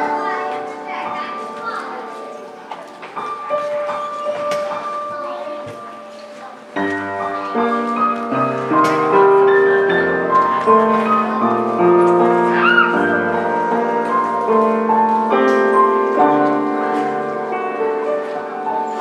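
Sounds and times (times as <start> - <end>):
grand piano melody: 0.0 - 19.0.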